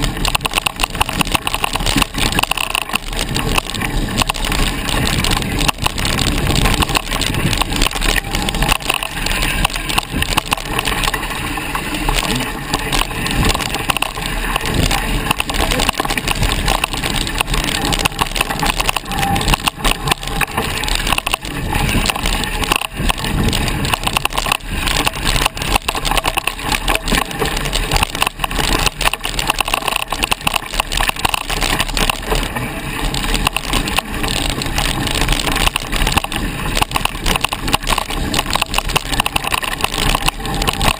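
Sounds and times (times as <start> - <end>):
bike clattering over bumps: 0.0 - 40.9
bike tyres on dirt: 0.0 - 40.9.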